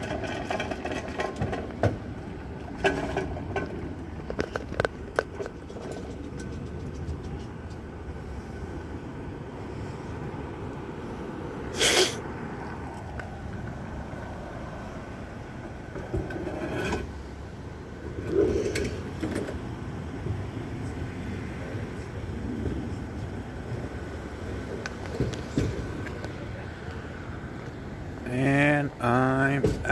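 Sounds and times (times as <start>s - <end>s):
idling vehicles and traffic rumble: 0.0s - 29.9s.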